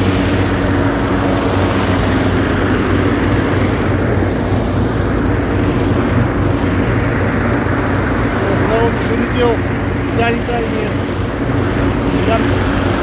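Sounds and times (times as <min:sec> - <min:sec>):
engine hum: 0:00.0 - 0:13.0
inflator fans blowing air: 0:00.0 - 0:13.0.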